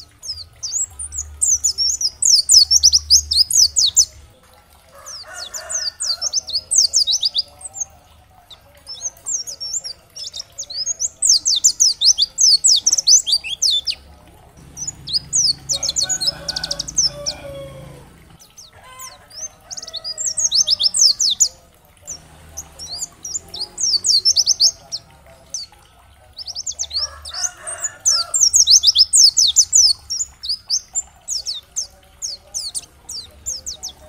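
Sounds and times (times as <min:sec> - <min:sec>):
bird high twittering song: 0:00.0 - 0:04.2, 0:05.1 - 0:14.0, 0:14.6 - 0:34.0.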